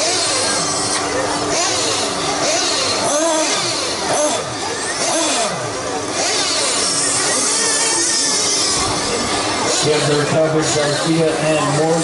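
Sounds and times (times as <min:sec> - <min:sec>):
small motors revving: 0:00.0 - 0:12.0.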